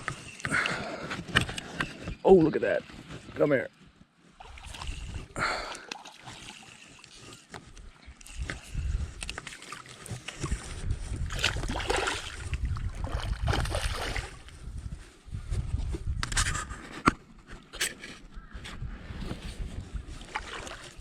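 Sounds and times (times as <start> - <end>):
water splashing and sloshing: 0.0 - 18.0, 19.3 - 21.0.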